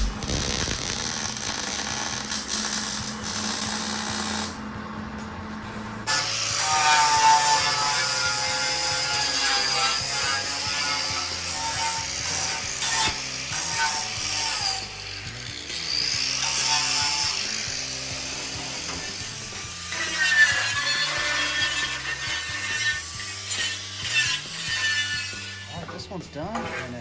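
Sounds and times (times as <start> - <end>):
angle grinder grinding metal: 0.0 - 27.0.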